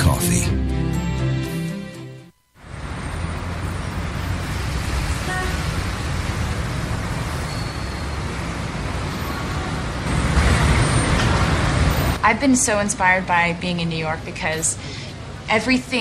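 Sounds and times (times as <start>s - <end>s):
traffic rumble: 2.6s - 16.0s.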